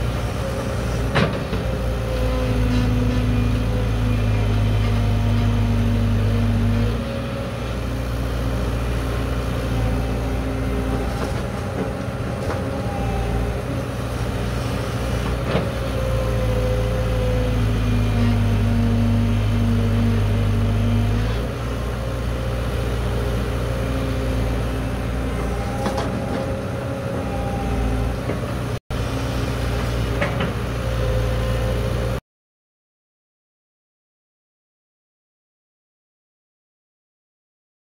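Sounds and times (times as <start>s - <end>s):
excavator diesel engine running: 0.0s - 32.2s.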